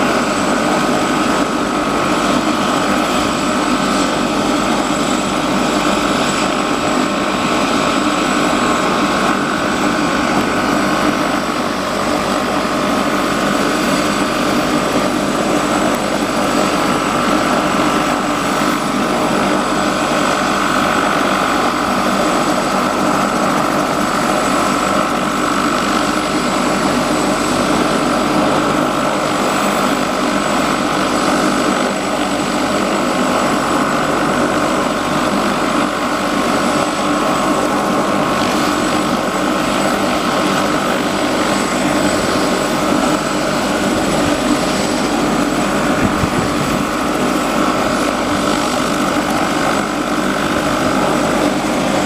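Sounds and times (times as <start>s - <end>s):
helicopter rotor: 0.0s - 52.0s
helicopter turbine engine whine: 0.0s - 52.0s.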